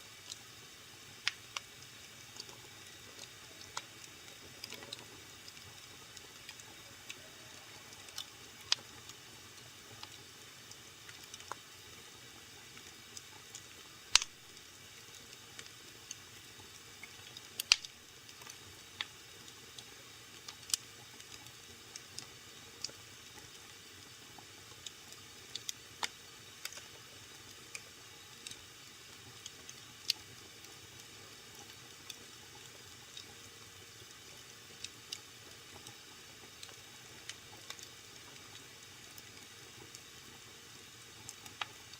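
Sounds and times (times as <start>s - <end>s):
faint steady hiss: 0.0s - 41.9s
wood fire crackling and popping: 1.1s - 33.4s, 34.0s - 40.5s, 41.1s - 41.9s.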